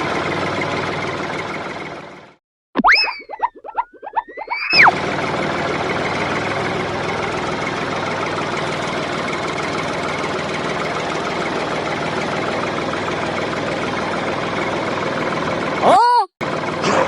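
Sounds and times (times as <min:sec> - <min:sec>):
tractor engine idling: 0:00.0 - 0:02.4, 0:04.9 - 0:17.0.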